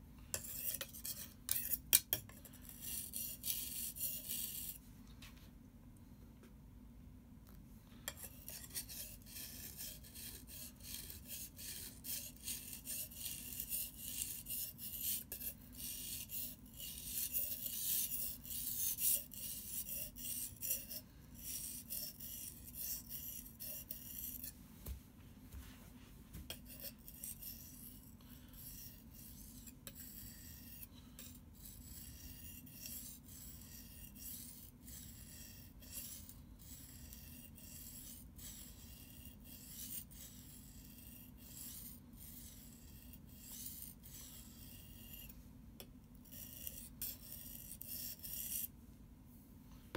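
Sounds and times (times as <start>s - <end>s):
knife scraping on whetstone: 0.3s - 4.8s, 8.1s - 24.6s, 26.4s - 45.3s, 46.2s - 48.7s.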